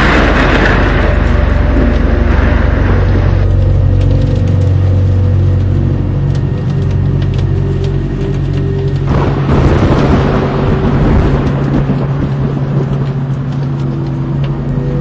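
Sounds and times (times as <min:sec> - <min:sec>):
car engine and road noise: 0:00.0 - 0:15.0
rushing noise: 0:00.0 - 0:15.0.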